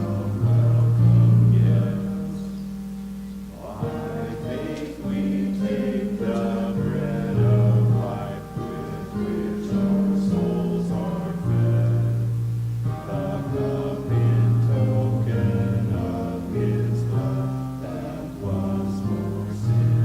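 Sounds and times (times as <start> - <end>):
congregation singing a hymn: 0.0 - 20.0
long held bass notes: 0.0 - 20.0.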